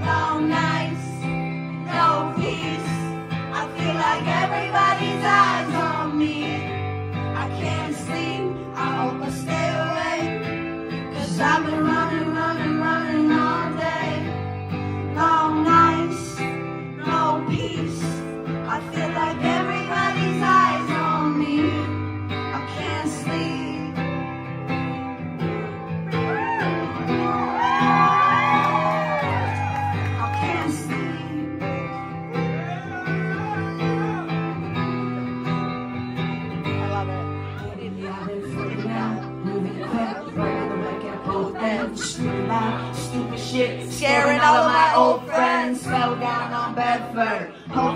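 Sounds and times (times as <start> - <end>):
woman singing into a microphone: 0.0 - 24.2, 27.9 - 32.1, 37.5 - 47.9
acoustic guitar: 0.0 - 47.9.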